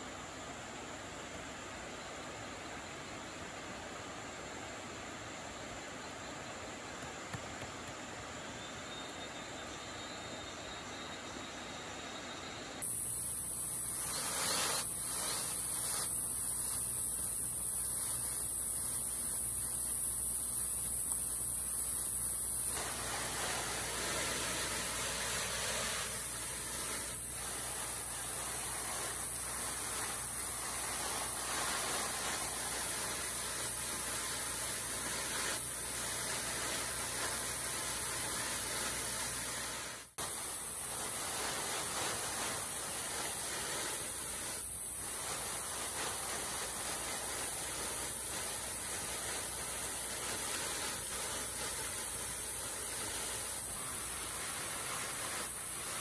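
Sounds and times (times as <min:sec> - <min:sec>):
high-pitched forest background hiss: 0:00.0 - 0:56.0.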